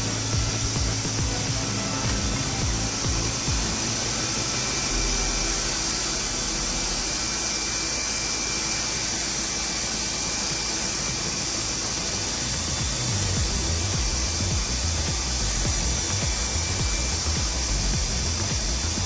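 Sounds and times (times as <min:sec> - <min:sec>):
cnc router spindle whirring: 0:00.0 - 0:19.0.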